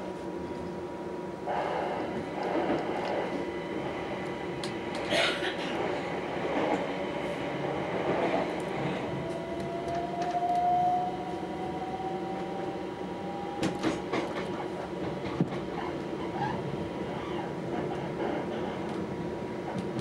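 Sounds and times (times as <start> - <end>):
passing train: 0.0 - 20.0
train wheels rumbling on rail: 0.0 - 20.0.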